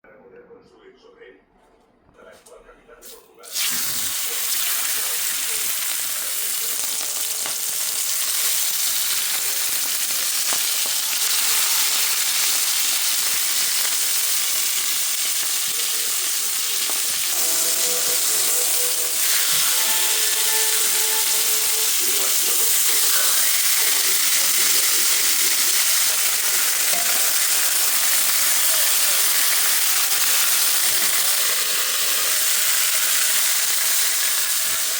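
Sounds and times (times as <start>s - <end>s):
chicken skin sizzling in fat: 3.4s - 34.9s.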